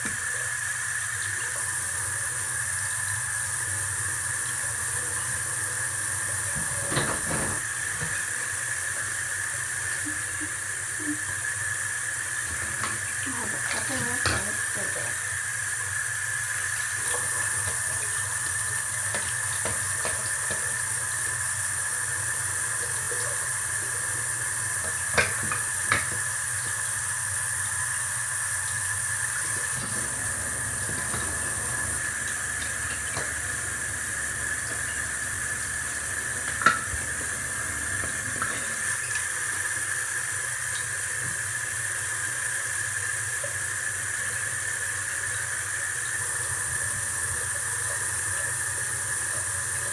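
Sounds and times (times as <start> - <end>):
tap water running into sink: 0.0 - 49.9.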